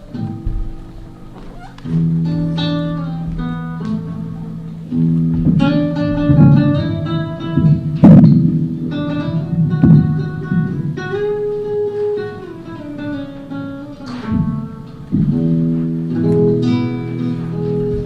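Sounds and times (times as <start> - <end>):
acoustic guitar strumming and notes: 0.0 - 18.0.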